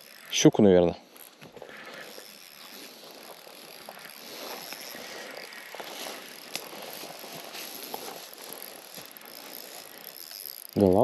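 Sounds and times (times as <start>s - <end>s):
fishing reel ticking and rattling: 0.0s - 11.0s.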